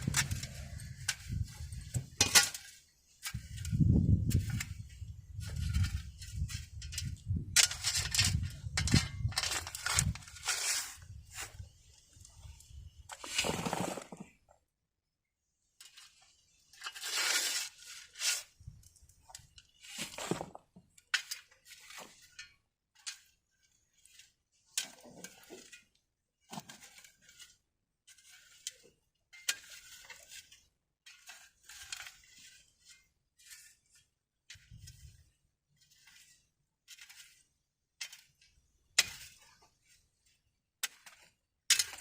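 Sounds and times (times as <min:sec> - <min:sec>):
hand tool scraping dirt: 0:00.0 - 0:14.5, 0:15.7 - 0:42.0.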